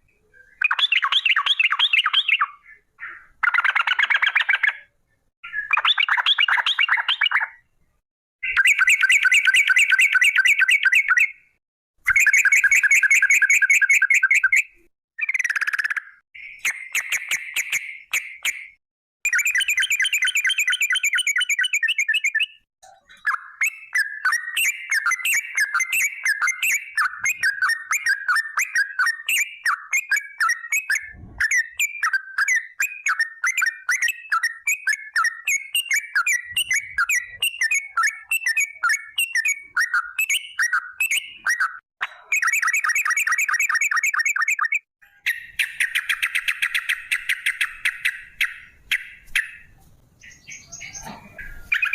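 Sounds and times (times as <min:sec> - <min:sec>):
bulbul singing: 0:00.0 - 0:07.7, 0:08.4 - 0:51.9.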